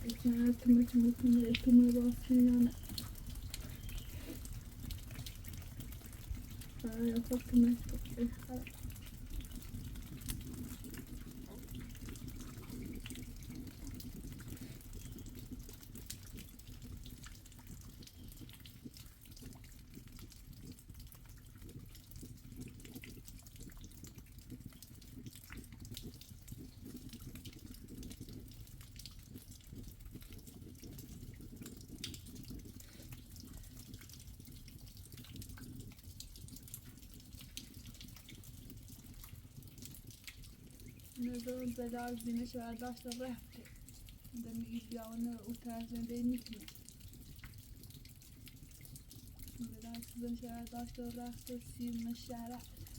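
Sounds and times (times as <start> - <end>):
faint water trickling: 0.0 - 52.9
water drips: 0.0 - 52.9.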